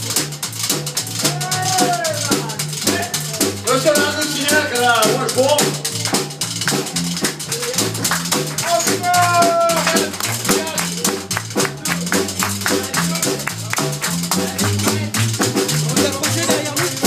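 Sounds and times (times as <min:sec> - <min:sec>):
drum kit: 0:00.0 - 0:17.0
low bass line: 0:00.0 - 0:17.0.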